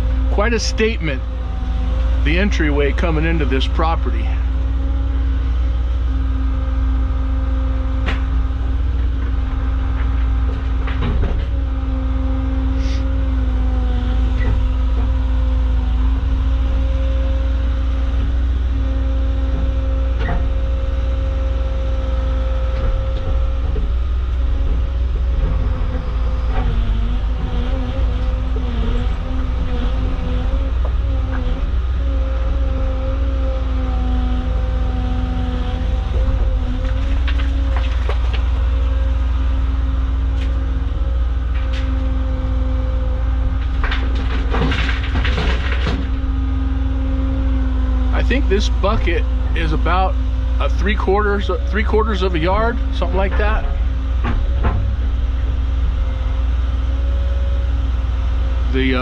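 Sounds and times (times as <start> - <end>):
excavator engine humming: 0.0 - 59.0.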